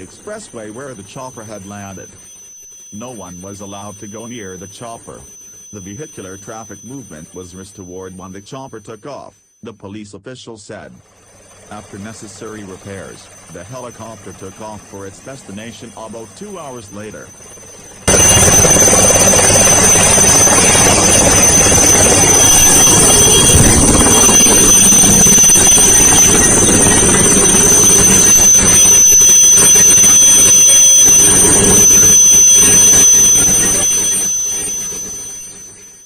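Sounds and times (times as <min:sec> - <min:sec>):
helicopter engines and rotor: 0:00.0 - 0:09.1, 0:11.0 - 0:36.0.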